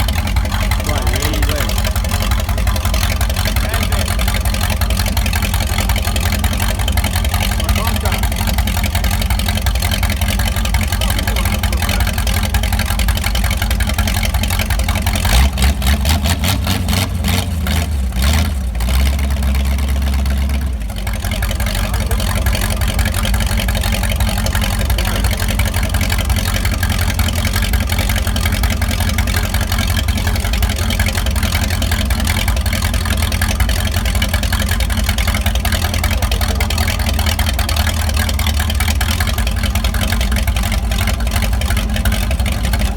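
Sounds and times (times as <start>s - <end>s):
car engine running and revving: 0.0s - 42.9s.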